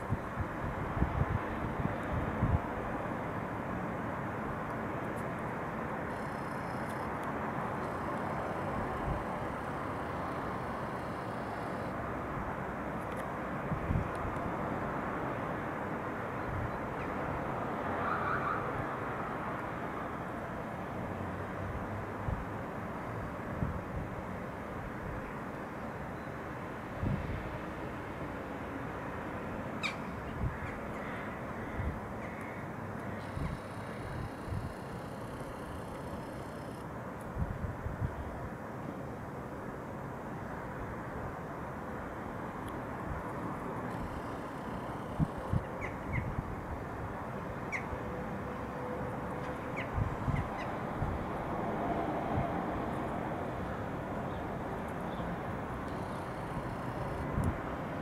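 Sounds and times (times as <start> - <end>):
city background hum: 0.0 - 58.0.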